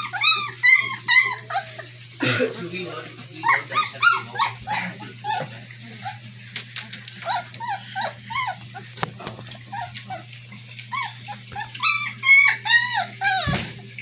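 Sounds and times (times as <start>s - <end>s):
puppies whimpering and squealing: 0.0s - 14.0s.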